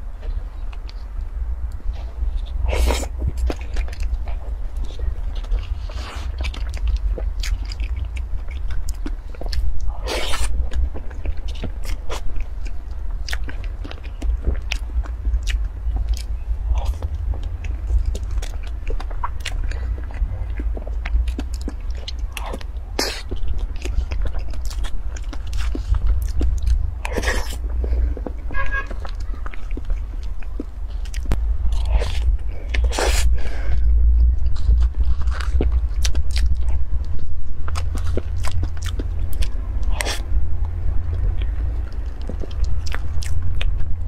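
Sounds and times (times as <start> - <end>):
steady low hum: 0.0 - 44.0
chewing and wet lip-smacking: 0.2 - 44.0.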